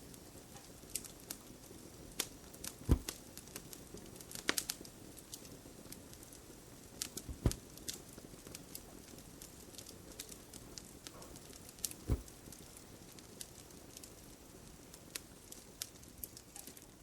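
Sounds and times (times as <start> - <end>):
wood fire crackling: 0.0 - 17.0
fire popping: 0.1 - 17.0.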